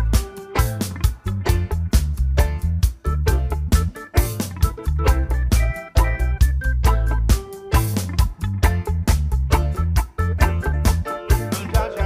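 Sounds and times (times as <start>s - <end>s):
music with beat and bass: 0.0s - 12.0s.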